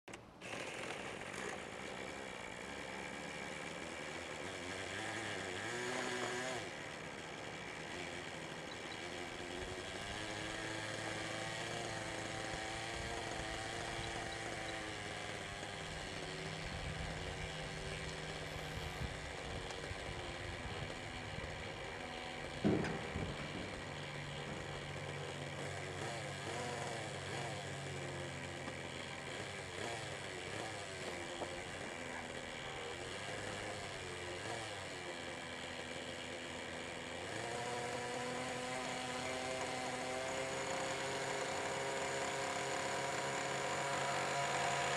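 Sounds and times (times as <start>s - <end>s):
model helicopter engine running: 0.1s - 44.9s.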